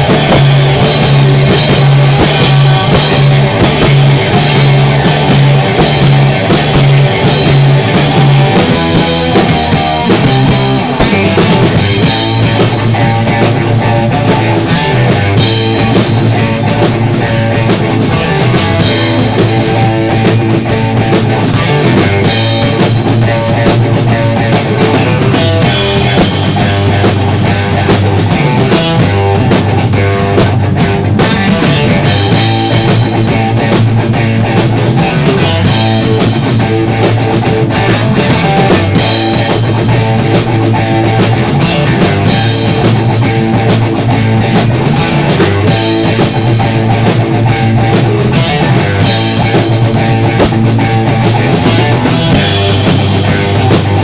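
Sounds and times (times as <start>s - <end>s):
loud rock music: 0.0s - 54.0s.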